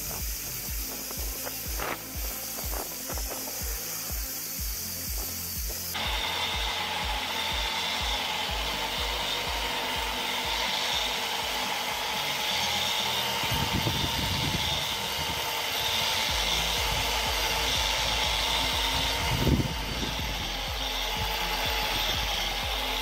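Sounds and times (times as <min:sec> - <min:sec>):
angle grinder motor whining: 0:00.0 - 0:23.0
tines churning soil: 0:00.0 - 0:23.0.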